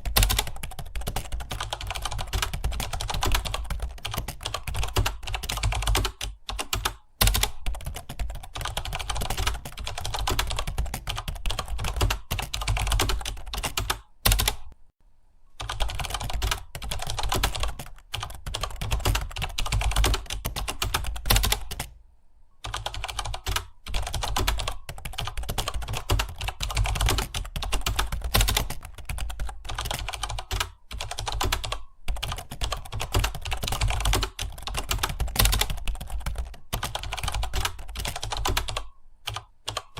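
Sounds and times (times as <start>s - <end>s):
fast typing on keyboard: 0.0s - 14.8s, 15.6s - 22.0s, 22.6s - 39.9s.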